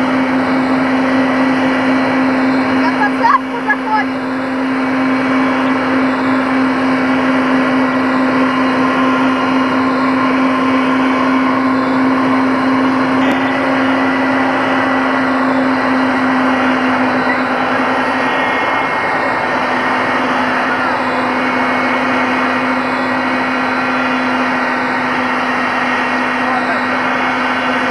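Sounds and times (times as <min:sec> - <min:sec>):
helicopter turbines and rotor drone: 0:00.0 - 0:27.9.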